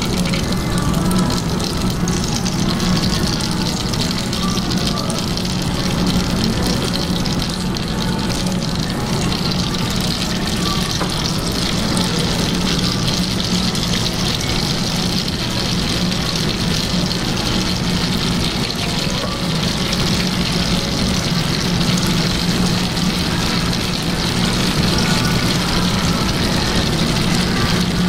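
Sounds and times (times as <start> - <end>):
extractor fan hum: 0.0 - 28.0
food sizzling in hot oil: 0.0 - 28.0.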